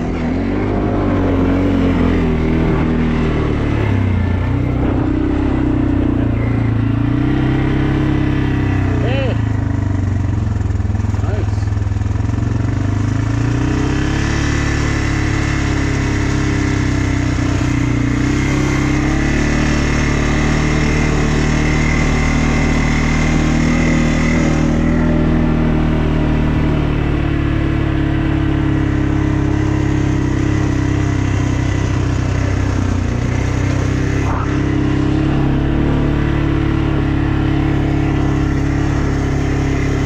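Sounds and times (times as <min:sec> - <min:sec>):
atv engine running: 0:00.0 - 0:40.0
wind and trail noise: 0:00.0 - 0:40.0.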